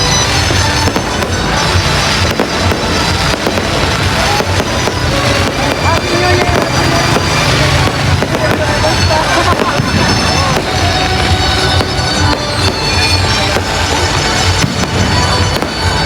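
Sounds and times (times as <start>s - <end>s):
fireworks crackling and booming: 0.0s - 16.0s.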